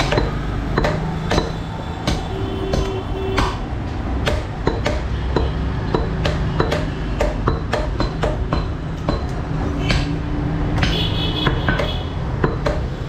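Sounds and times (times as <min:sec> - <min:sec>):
cleavers chopping on wooden blocks: 0:00.0 - 0:13.0.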